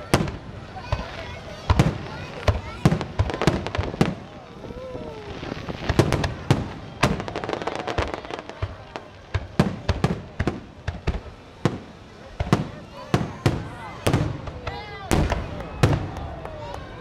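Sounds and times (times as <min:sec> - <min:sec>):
fireworks bursting with booms: 0:00.0 - 0:17.0.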